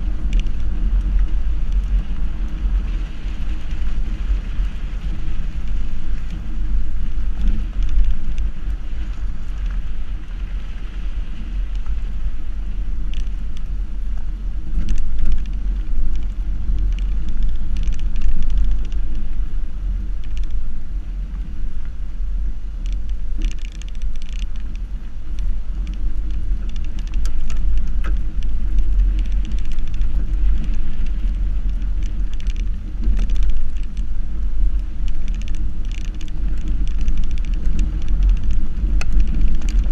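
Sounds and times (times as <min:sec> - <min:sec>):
car driving low rumble: 0:00.0 - 0:39.9
gravel crackling under tyres: 0:00.0 - 0:39.9.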